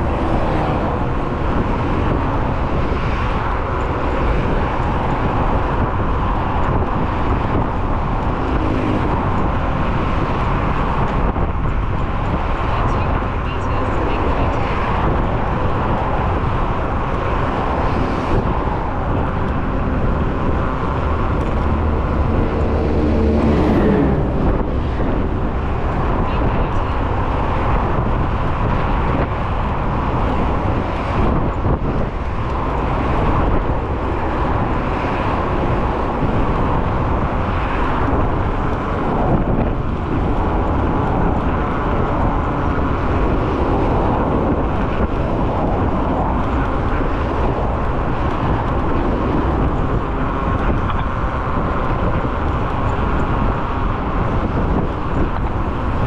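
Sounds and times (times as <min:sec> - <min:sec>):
cars passing: 0:00.0 - 0:56.0
scooter road noise: 0:00.0 - 0:56.0
wind over microphone: 0:00.0 - 0:56.0.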